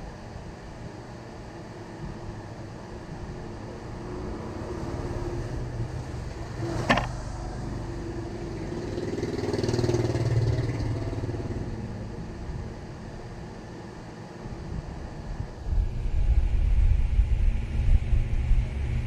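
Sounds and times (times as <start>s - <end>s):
low engine rumble: 1.8s - 19.0s.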